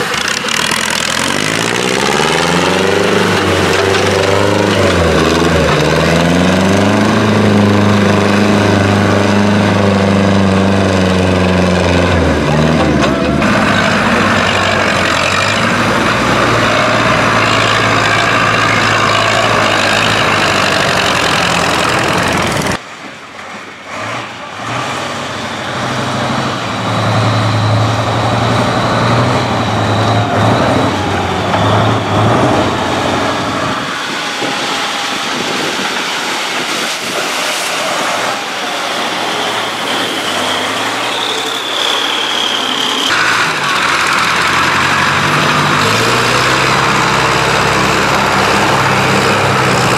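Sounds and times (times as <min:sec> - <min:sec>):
tractor engine running: 0:00.0 - 0:23.2, 0:26.3 - 0:49.9.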